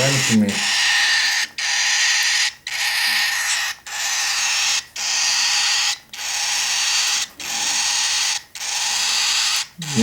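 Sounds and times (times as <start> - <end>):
baby cockatiel raspy hissing calls: 0.0 - 10.0.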